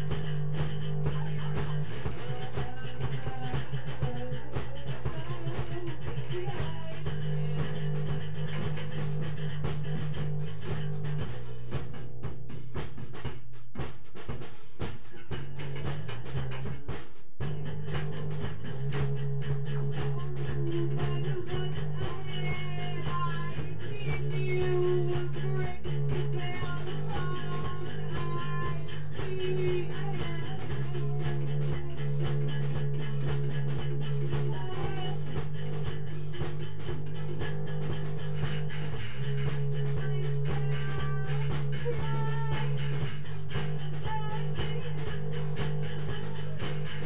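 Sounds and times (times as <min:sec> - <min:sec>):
bass notes: 0:00.0 - 0:47.0
drums beat: 0:00.0 - 0:47.0.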